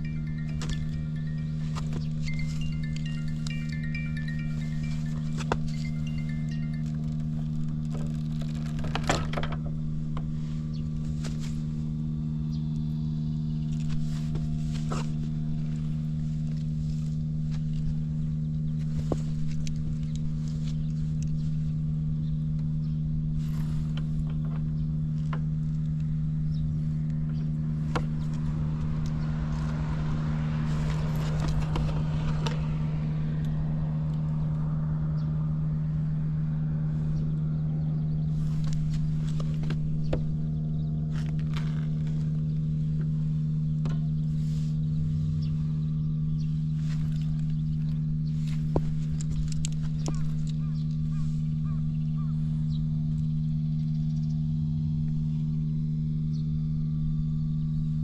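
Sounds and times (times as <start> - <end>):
small engine idling: 0.0 - 58.0.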